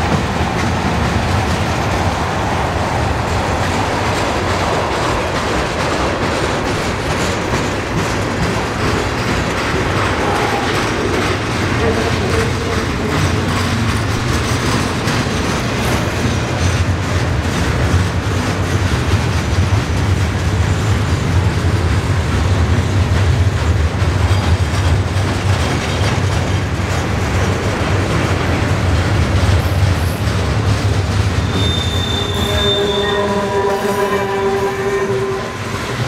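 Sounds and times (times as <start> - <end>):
clicking over rail joints: 0.0 - 32.0
train wheels rumbling on rails: 0.0 - 36.0.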